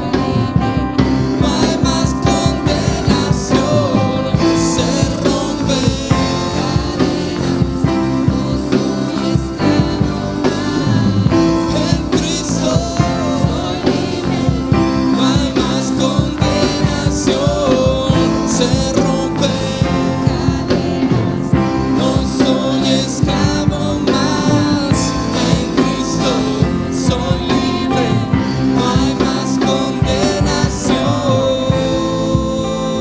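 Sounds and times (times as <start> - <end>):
person singing: 0.0 - 33.0
worship band playing: 0.0 - 33.0.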